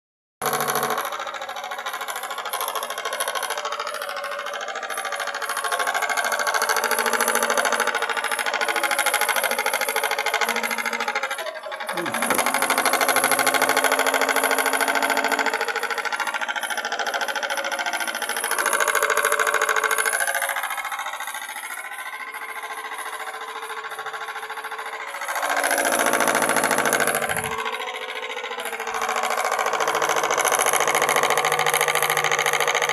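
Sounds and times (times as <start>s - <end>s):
steam engine running fast: 0.4s - 32.9s.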